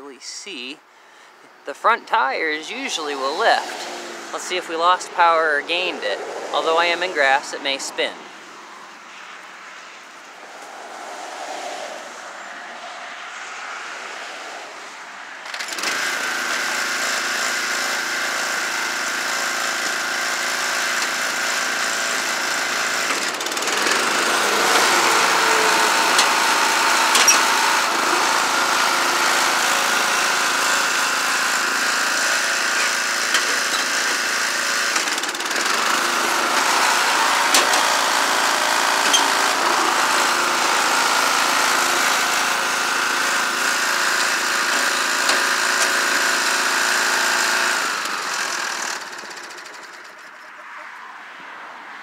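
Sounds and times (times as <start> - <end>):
riding mower engine under load: 1.4 - 9.5, 10.2 - 51.0.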